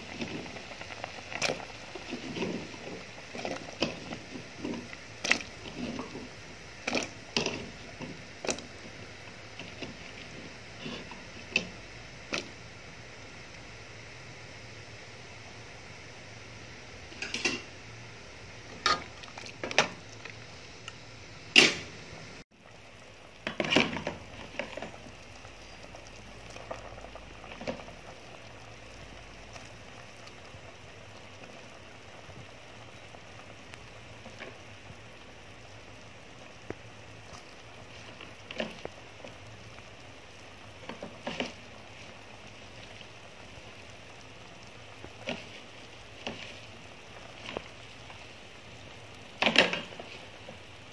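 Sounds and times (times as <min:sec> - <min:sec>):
soup boiling: 0:00.0 - 0:50.9.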